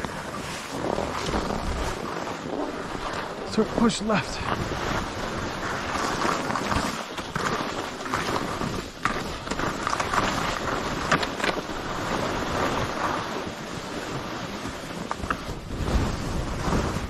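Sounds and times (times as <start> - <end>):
ski clicks: 0.0 - 17.0
skis scraping over snow: 0.0 - 17.0
wind rushing over microphone: 0.0 - 17.0.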